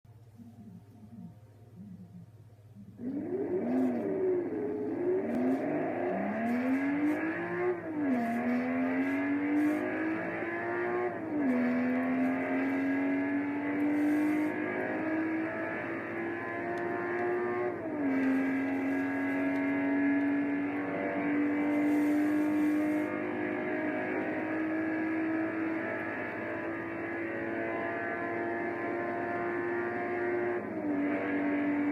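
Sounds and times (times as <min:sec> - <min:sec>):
car engine accelerating: 0:00.1 - 0:31.9.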